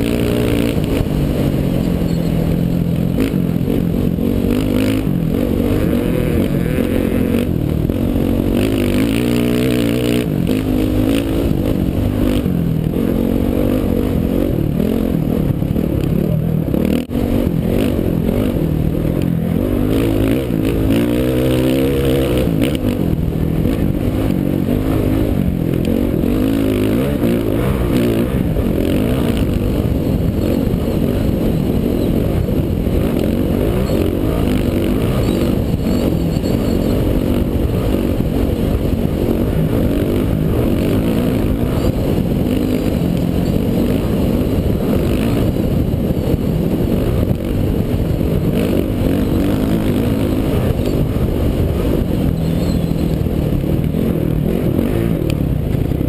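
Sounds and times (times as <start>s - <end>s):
dirt bike engine under throttle: 0.0s - 56.0s
wind noise on microphone: 0.0s - 56.0s.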